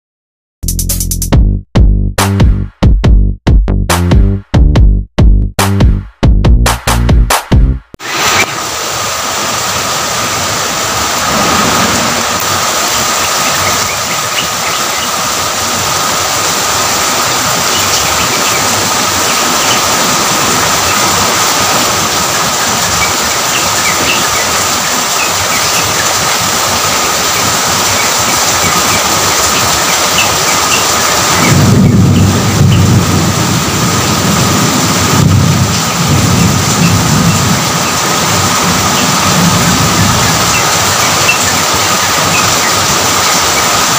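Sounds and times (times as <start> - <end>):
steady rain hiss: 8.0 - 43.9.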